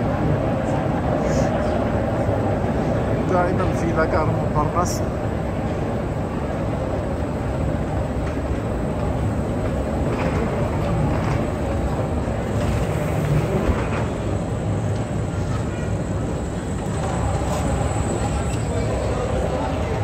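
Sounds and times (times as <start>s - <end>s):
moving walkway rumble: 0.0s - 20.0s.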